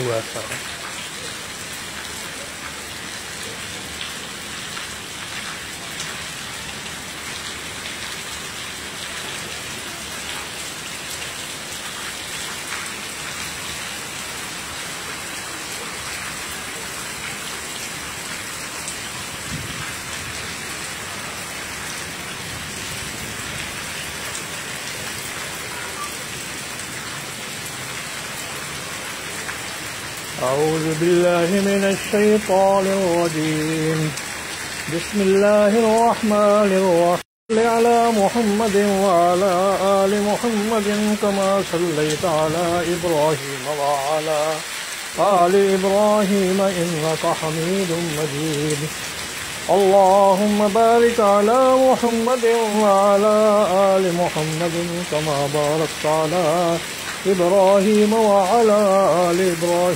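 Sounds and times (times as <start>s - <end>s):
rain on concrete rooftop: 0.0s - 59.9s.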